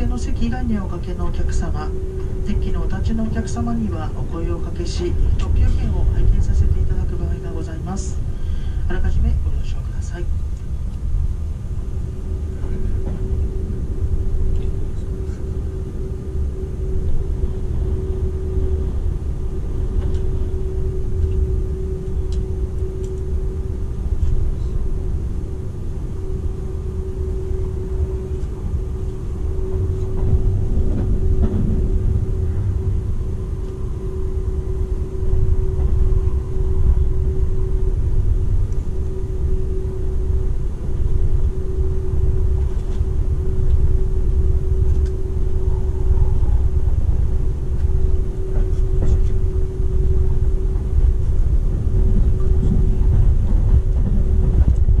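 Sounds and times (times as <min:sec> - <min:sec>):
droning hum: 0:00.0 - 0:55.0
train wheels rumbling on rails: 0:00.0 - 0:55.0.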